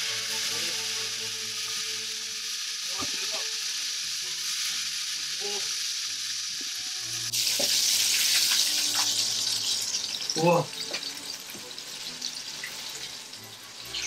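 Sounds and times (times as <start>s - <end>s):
deep-frying oil sizzling: 0.0s - 14.0s.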